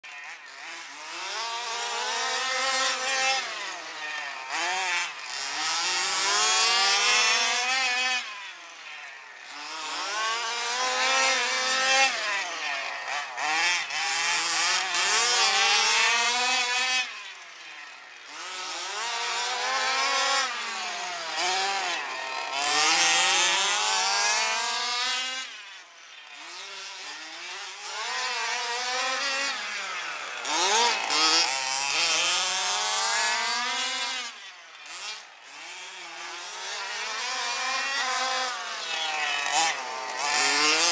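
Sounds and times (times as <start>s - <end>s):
rc car engines revving: 0.0s - 40.9s.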